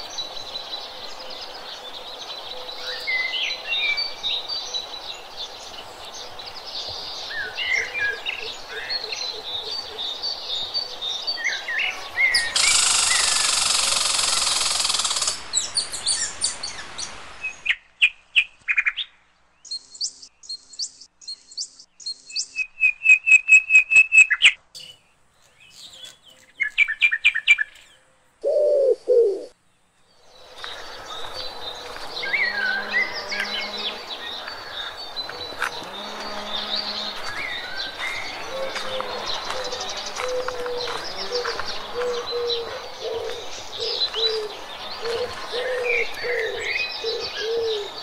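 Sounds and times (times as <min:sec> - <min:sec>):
birds chirping and trilling: 0:00.0 - 0:48.0.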